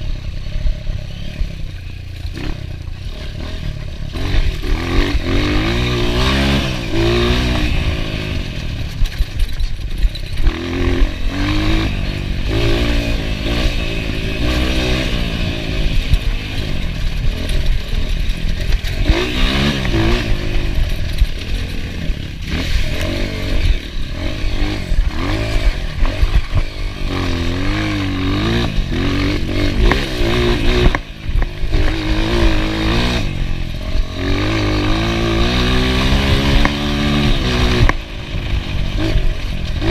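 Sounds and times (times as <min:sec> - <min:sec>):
bike rattling and scraping: 0:00.0 - 0:39.9
dirt bike engine revving: 0:00.0 - 0:39.9.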